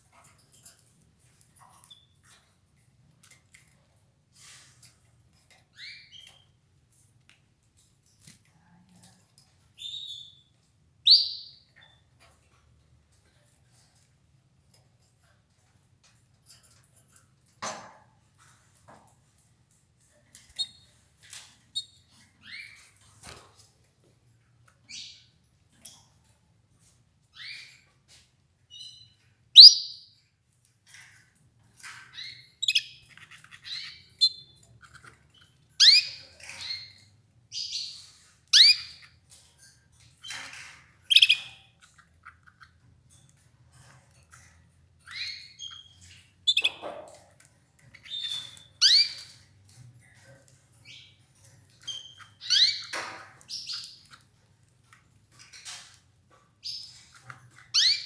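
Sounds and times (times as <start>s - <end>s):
canaries chirping: 0.0s - 7.1s, 7.7s - 14.1s, 14.7s - 23.7s, 24.6s - 58.0s.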